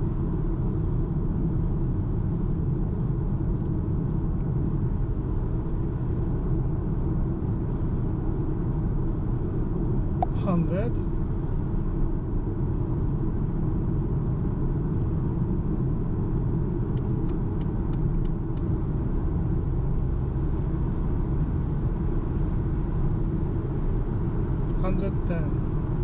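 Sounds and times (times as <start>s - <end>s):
road and tyre rumble in car: 0.0s - 26.0s.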